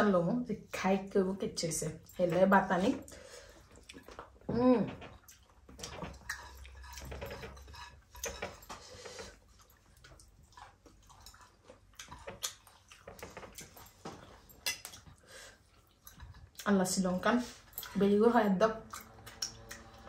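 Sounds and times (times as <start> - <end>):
chewing: 1.8 - 20.0.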